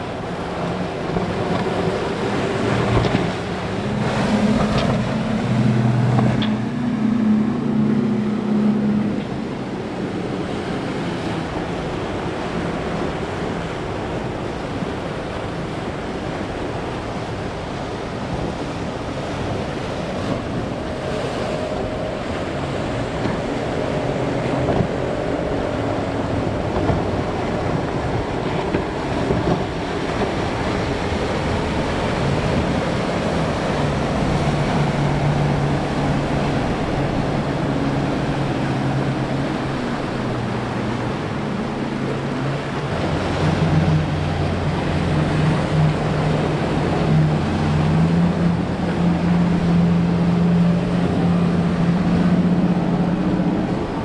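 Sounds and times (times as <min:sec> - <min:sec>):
boat outboard engines humming: 0:00.0 - 0:54.0
deeper engine hum: 0:00.0 - 0:54.0
waves and surf rushing: 0:00.0 - 0:54.0
wind buffeting microphone: 0:00.0 - 0:54.0.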